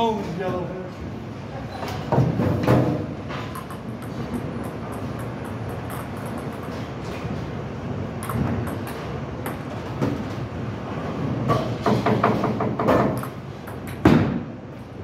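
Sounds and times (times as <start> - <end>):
bowling balls rolling: 2.0 - 14.6.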